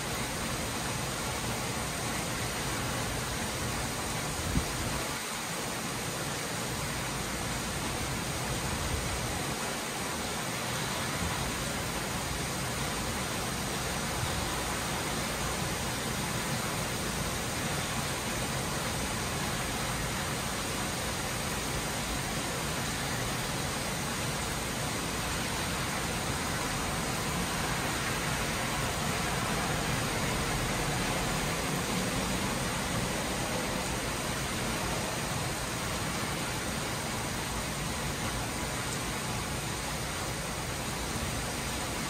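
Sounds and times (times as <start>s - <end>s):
torrential rain pouring: 0.0s - 42.0s.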